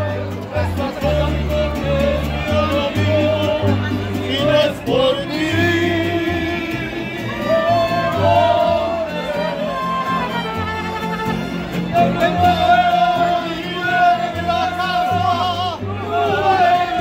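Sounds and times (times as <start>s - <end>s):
plucked bass guitar notes: 0.0s - 17.0s
strummed guitars: 0.0s - 17.0s.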